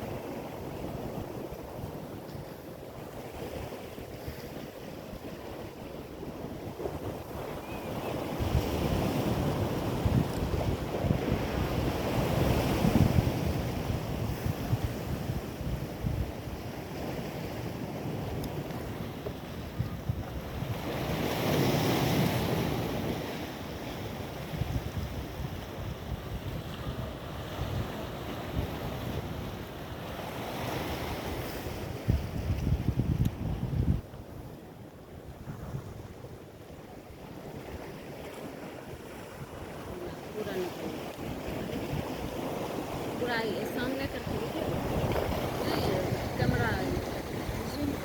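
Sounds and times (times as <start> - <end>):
ocean surf washing on shore: 0.0 - 48.0
wind rumbling on microphone: 0.0 - 48.0.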